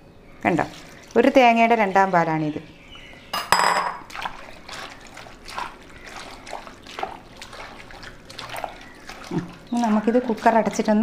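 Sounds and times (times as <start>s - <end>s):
wet squelches of hand mixing: 0.3s - 3.3s, 4.0s - 11.0s.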